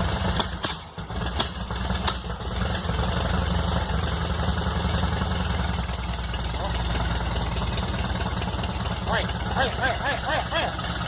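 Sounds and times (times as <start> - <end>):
car engine running with pops: 0.0 - 11.0.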